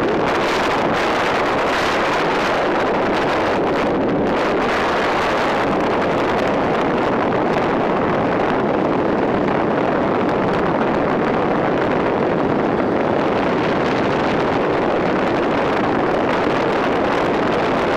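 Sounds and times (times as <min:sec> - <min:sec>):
motorbike running noise: 0:00.0 - 0:17.9
wind rush on microphone: 0:00.0 - 0:17.9.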